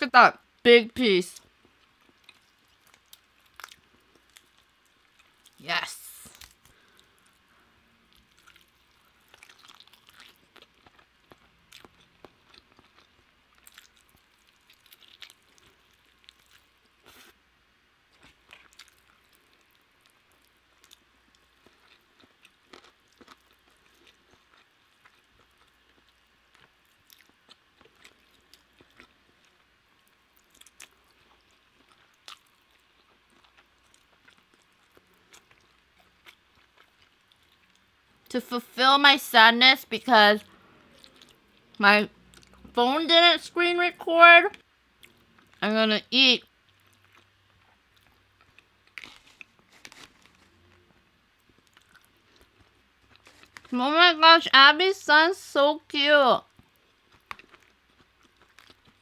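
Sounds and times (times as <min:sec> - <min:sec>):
person chewing food: 0:01.4 - 0:05.6, 0:06.3 - 0:17.4, 0:18.1 - 0:38.1, 0:40.5 - 0:42.7, 0:44.6 - 0:45.6, 0:46.5 - 0:53.7, 0:56.5 - 0:59.0.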